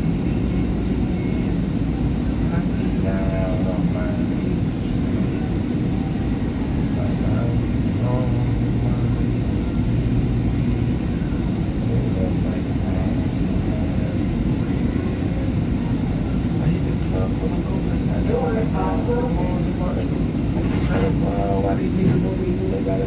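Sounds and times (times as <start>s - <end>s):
faint passenger voices: 0.0s - 23.0s
train car rumble: 0.0s - 23.0s.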